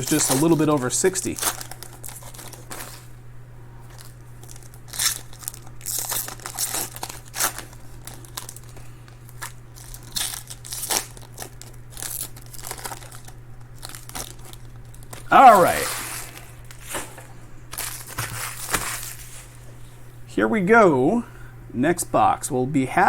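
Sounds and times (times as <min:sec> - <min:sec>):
plastic wrapping crinkling: 0:00.0 - 0:03.1, 0:03.9 - 0:19.7
plastic wrapping tearing: 0:00.0 - 0:03.1, 0:03.9 - 0:19.6
low electrical hum: 0:00.0 - 0:23.0.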